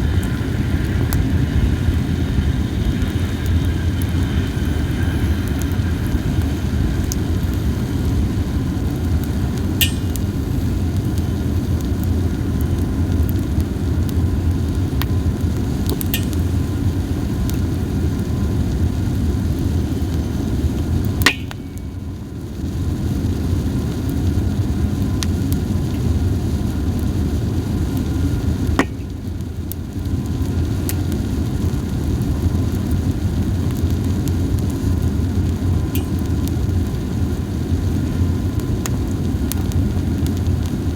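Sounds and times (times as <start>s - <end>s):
fire crackles: 0.0s - 40.9s
fire rumbling: 0.0s - 40.9s.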